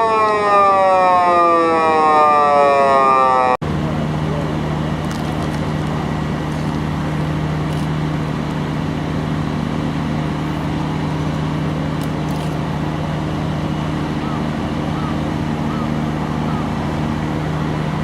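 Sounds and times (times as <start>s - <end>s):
gas turbine generator humming: 0.0s - 18.0s.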